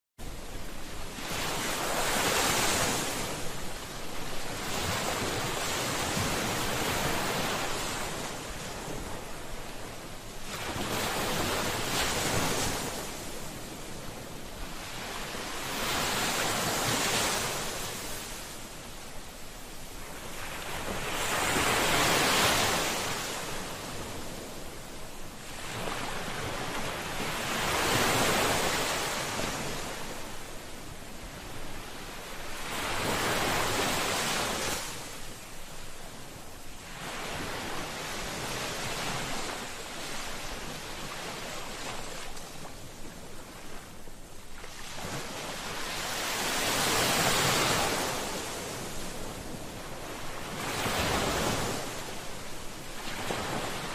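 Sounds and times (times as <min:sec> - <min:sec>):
sea waves breaking on shore: 0:00.2 - 0:53.9.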